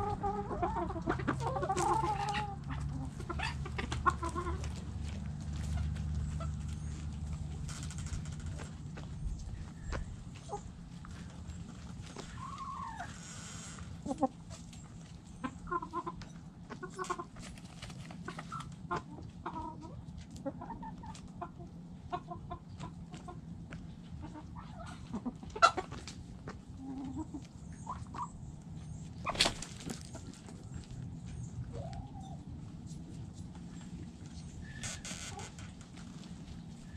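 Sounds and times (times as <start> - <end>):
hens clucking softly: 0.0 - 36.9
hens scratching in dry dirt: 0.0 - 36.9.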